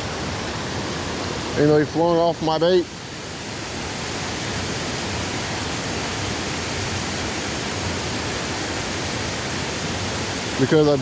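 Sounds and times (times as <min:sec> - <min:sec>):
water rushing over waterfall: 0:00.0 - 0:11.0.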